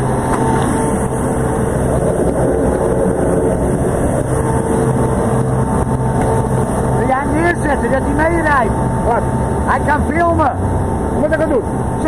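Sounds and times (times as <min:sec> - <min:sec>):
constant whine: 0:00.0 - 0:12.0
road sweeper engine drone: 0:00.0 - 0:12.0.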